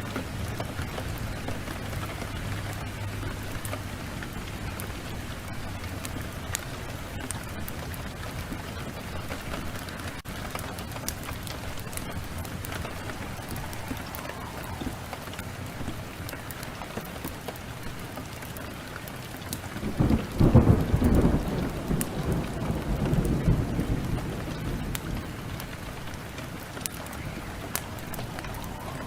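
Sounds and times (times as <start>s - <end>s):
thunder rumbling: 0.0s - 18.1s, 19.2s - 29.0s
heavy rain hissing: 0.0s - 29.0s
wood fire crackling: 0.0s - 29.0s.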